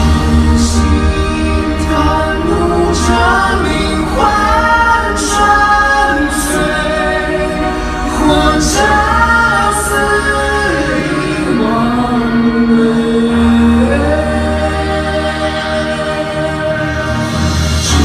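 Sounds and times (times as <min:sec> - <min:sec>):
deep bass: 0:00.0 - 0:18.0
person singing pop music: 0:00.0 - 0:18.0.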